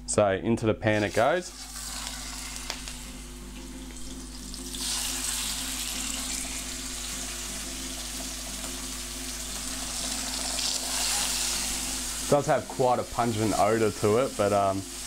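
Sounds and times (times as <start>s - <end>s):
liver sizzling in a frying pan: 1.0s - 15.0s.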